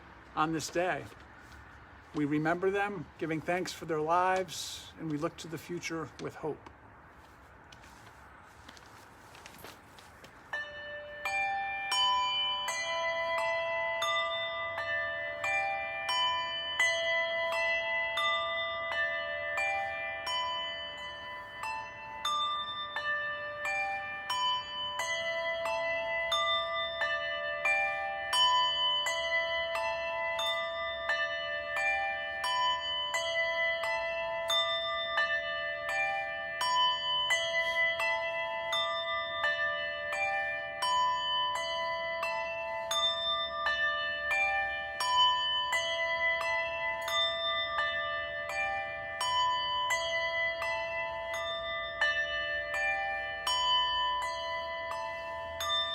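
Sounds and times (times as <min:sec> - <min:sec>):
bells of different pitches ringing: 0:00.0 - 0:55.9.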